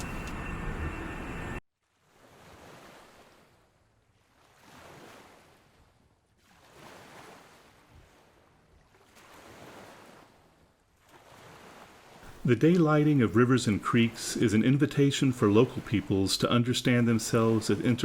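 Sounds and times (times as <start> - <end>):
gentle water waves: 0.0 - 18.0.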